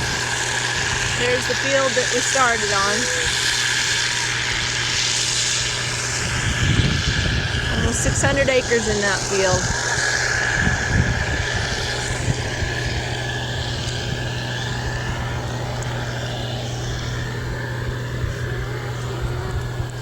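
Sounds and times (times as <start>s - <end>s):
road rushing noise: 0.0s - 20.0s
vehicle engine hum: 0.0s - 20.0s.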